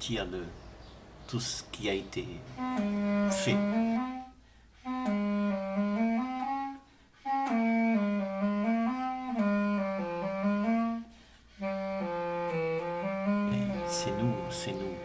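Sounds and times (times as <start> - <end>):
slow solo wind instrument melody: 2.5 - 15.0.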